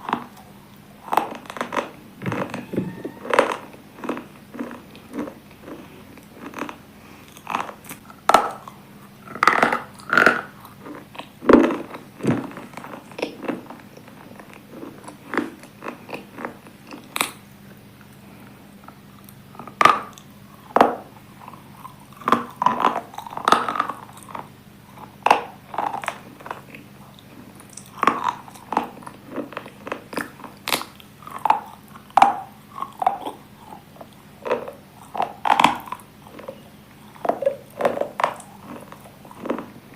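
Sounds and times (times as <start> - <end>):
chewing and grinding: 0.0 - 39.9
faint steady hum: 0.0 - 39.9
crunching of brittle pieces: 1.0 - 17.4, 19.6 - 39.8.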